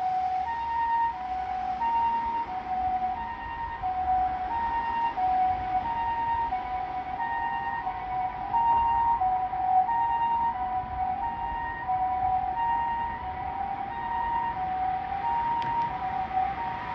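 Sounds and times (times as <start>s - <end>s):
road traffic rushing: 0.0s - 16.9s
two-tone ambulance siren: 0.0s - 16.9s.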